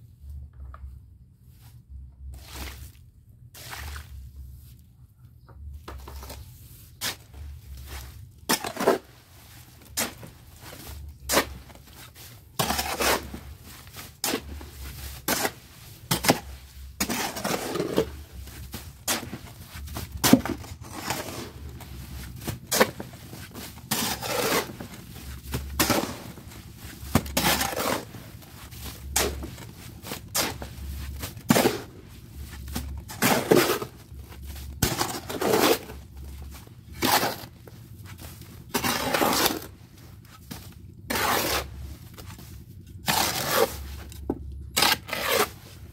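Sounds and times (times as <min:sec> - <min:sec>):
hoe scraping cement mix in metal: 0:06.1 - 0:45.9.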